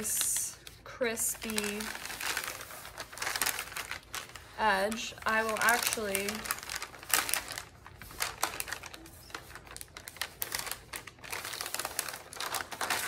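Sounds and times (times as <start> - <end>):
plastic liner crackling: 0.0 - 13.0.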